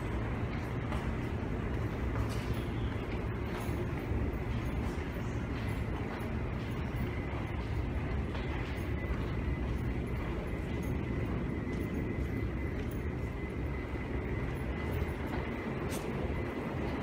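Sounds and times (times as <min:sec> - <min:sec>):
high-pitched whine: 0:00.0 - 0:17.0
subway station rumble: 0:00.0 - 0:17.0.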